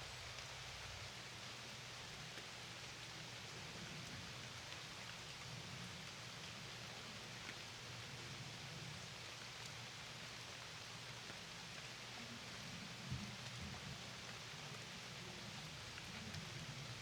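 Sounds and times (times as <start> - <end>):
rain falling: 0.1 - 17.0.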